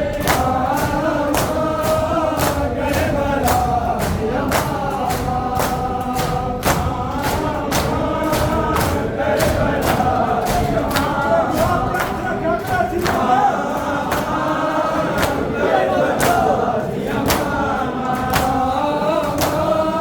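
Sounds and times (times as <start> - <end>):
crowd chanting in unison: 0.0 - 20.0.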